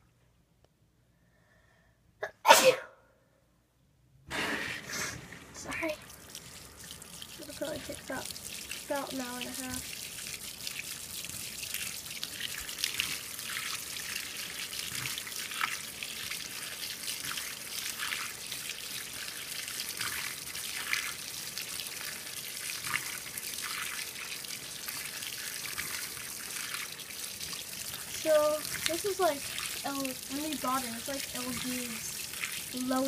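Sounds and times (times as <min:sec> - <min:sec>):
water pouring into washer tub: 0:04.3 - 0:33.0
water splashing onto clothes: 0:05.2 - 0:33.0.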